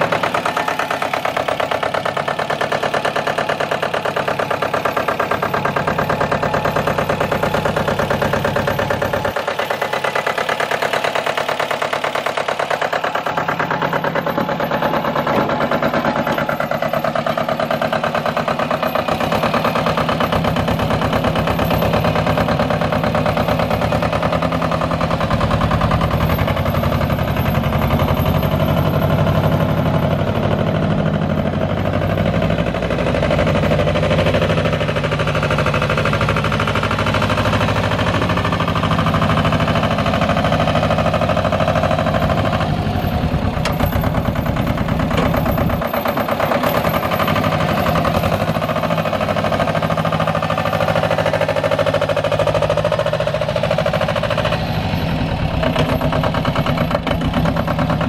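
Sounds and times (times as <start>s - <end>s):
tractor diesel engine chugging: 0.0s - 58.0s.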